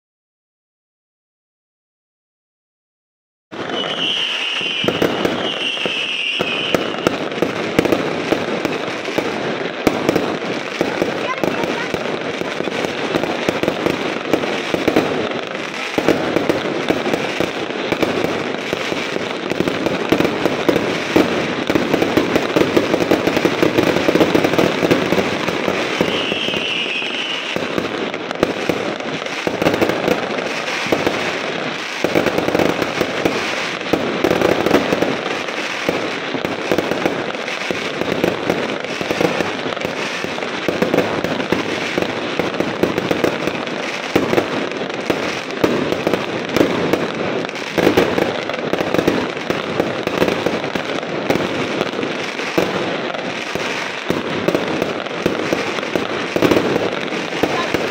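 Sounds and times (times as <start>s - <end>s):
fireworks crackling and popping: 3.5s - 57.9s.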